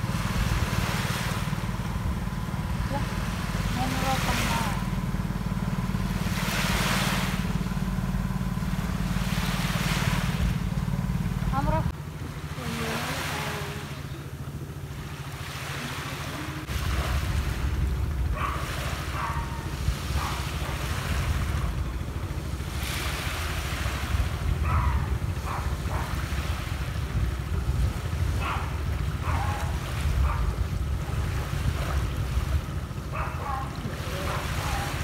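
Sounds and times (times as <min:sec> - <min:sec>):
wind buffeting microphone: 0:00.0 - 0:12.2, 0:16.3 - 0:35.0
waves washing onto sandy beach: 0:00.0 - 0:35.0.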